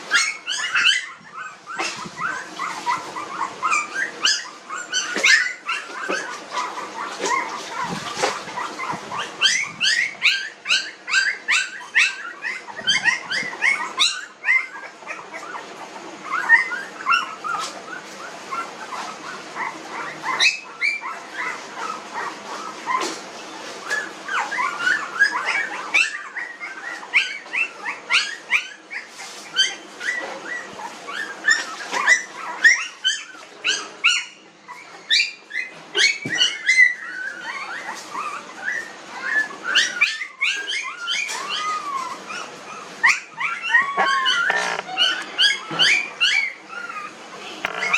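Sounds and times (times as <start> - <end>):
puppies whining and squeaking: 0.0 - 47.9.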